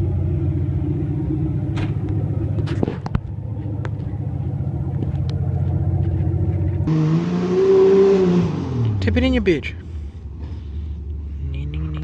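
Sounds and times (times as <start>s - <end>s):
car engine idling: 0.0s - 7.5s, 8.5s - 12.0s.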